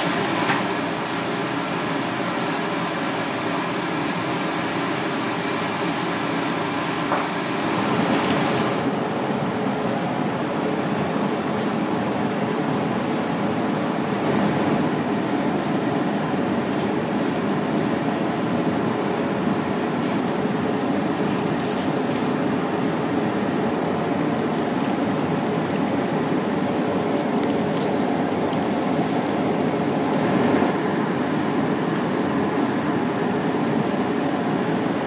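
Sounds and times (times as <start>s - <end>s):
ventilation fan hum: 0.0s - 35.0s.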